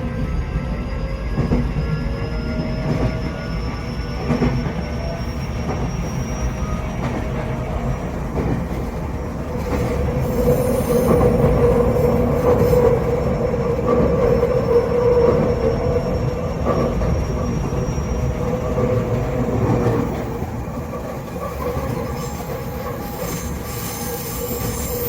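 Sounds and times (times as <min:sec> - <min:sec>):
train rumble inside car: 0:00.0 - 0:25.0.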